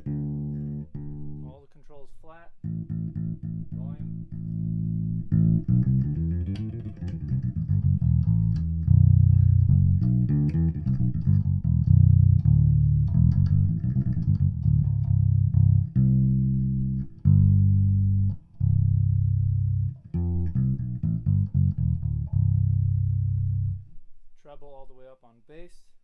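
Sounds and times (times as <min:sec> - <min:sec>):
electric bass plucked notes: 0:00.0 - 0:01.6, 0:02.6 - 0:24.1.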